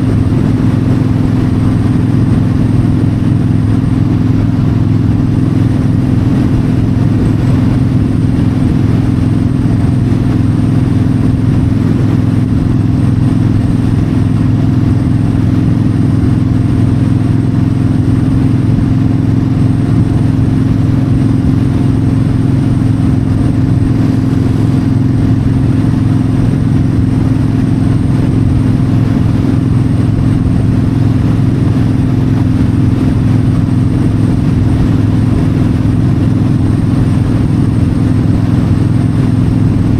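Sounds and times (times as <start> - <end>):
motorcycle engine cruising: 0.0 - 39.9
wind rushing: 0.0 - 39.9.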